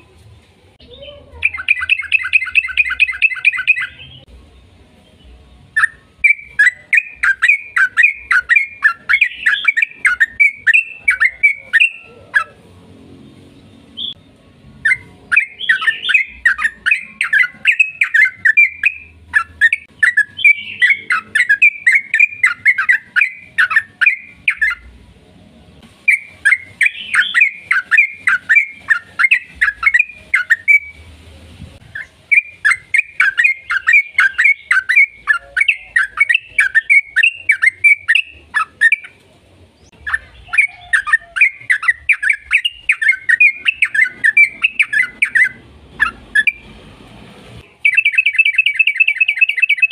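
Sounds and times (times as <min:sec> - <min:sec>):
bird chattering song: 0:00.8 - 0:04.3, 0:05.0 - 0:12.6, 0:13.6 - 0:24.9, 0:26.0 - 0:31.0, 0:31.8 - 0:39.2, 0:39.8 - 0:46.7, 0:47.6 - 0:49.9.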